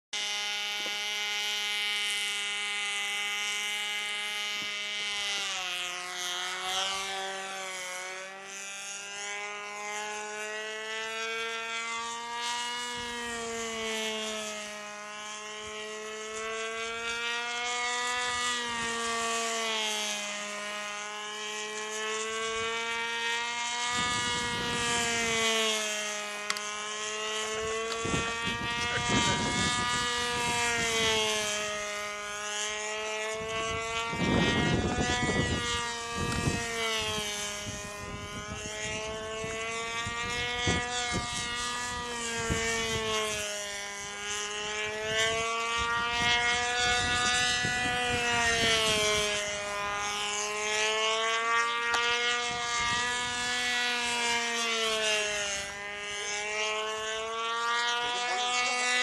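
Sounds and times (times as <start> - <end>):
model airplane engine buzzing: 0.1 - 59.0.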